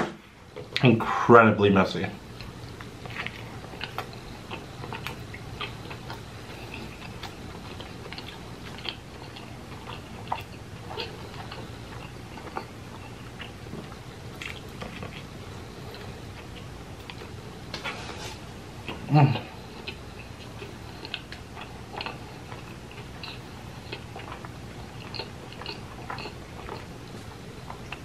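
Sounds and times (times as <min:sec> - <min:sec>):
faint low hum: 0:00.0 - 0:28.0
person chewing: 0:02.4 - 0:28.0.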